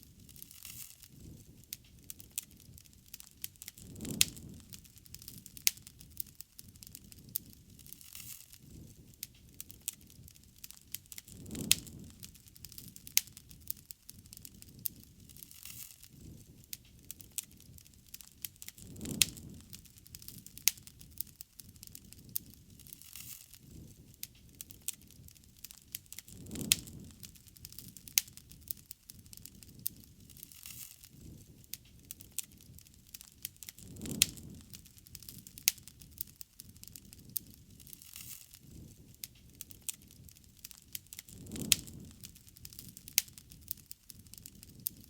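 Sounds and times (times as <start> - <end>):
bonfire crackling and popping: 0.0 - 45.0.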